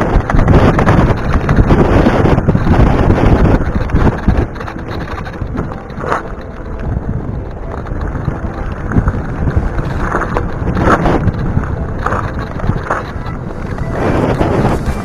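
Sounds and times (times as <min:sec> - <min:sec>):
bike rattling: 0:00.0 - 0:15.0
wind buffeting microphone: 0:00.0 - 0:15.0.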